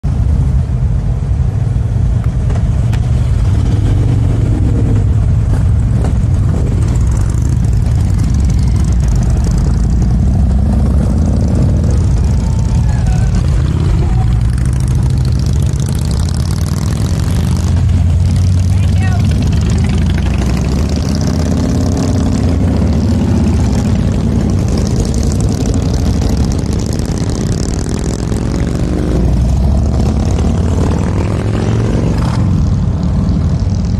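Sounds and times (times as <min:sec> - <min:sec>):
motorcycles accelerating past: 0:03.0 - 0:33.9.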